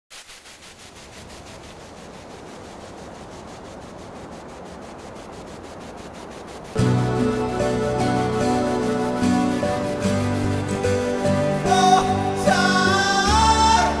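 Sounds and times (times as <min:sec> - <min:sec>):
pulsing rushing rubbing noise: 0:00.1 - 0:14.0.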